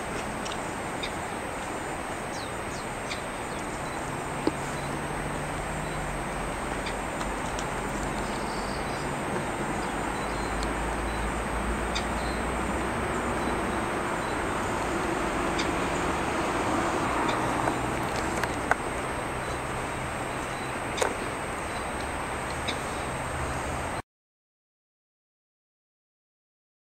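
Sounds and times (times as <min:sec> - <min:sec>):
river water rushing: 0:00.0 - 0:24.0
traffic rumble: 0:00.0 - 0:24.0.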